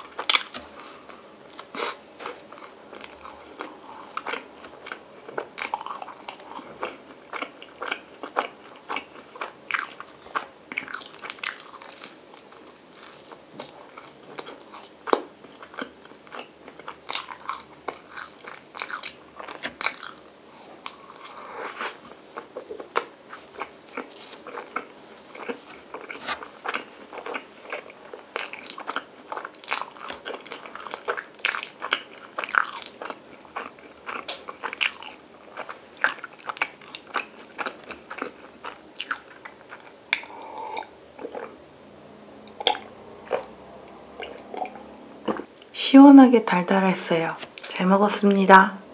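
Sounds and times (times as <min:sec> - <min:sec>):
crunchy bread chewing: 0:00.0 - 0:41.6.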